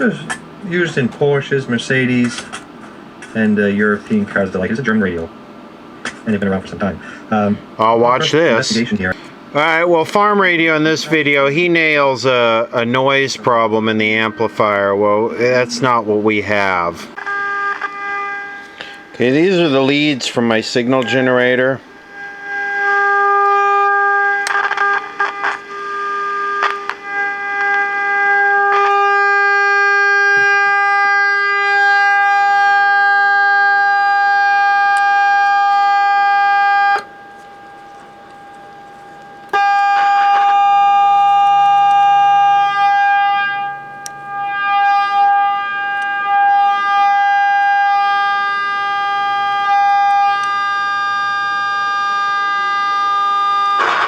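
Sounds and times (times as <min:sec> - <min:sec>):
buzzy test tone from speaker: 0:00.0 - 0:54.0.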